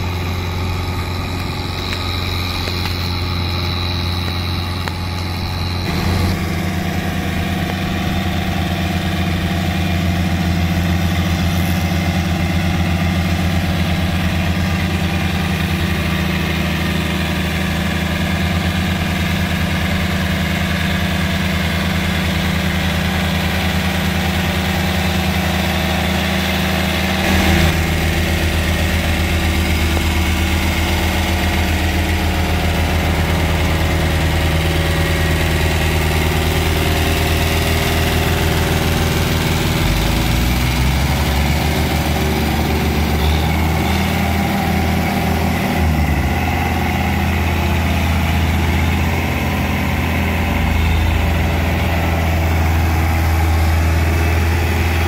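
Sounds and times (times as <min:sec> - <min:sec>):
diesel tractors running under load: 0:00.0 - 0:55.0.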